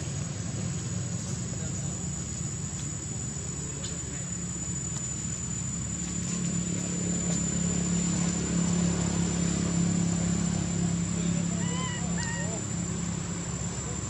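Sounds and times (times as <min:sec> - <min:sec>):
high-pitched whine: 0:00.0 - 0:14.0
motor engine hum: 0:00.0 - 0:14.0.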